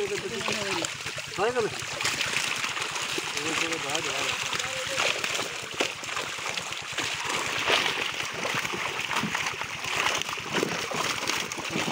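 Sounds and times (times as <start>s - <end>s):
fish thrashing and splashing water: 0.0s - 11.9s.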